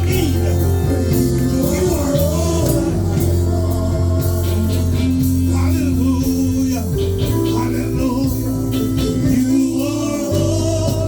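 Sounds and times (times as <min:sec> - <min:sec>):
band playing sustained chords: 0:00.0 - 0:11.0
people singing: 0:00.0 - 0:11.0.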